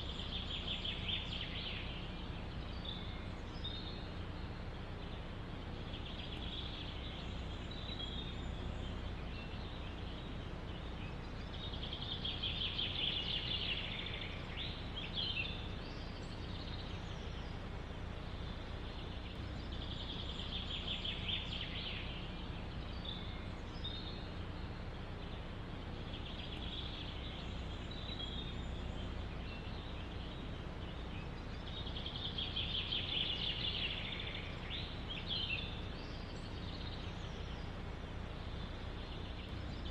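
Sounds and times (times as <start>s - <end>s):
low rumble of wind: 0.0s - 39.9s
songbird trilling: 0.0s - 39.9s.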